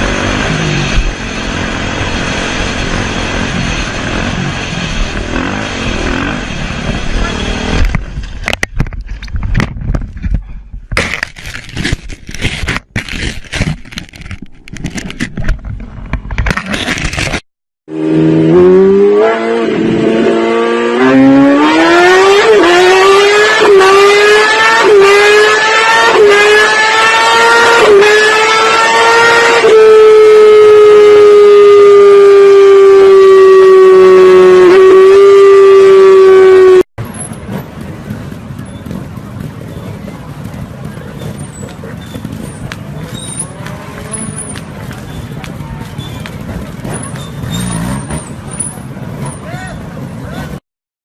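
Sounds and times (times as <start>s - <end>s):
engine running hard: 0.0s - 8.7s, 15.4s - 50.6s
motor vehicle engine: 0.0s - 50.6s.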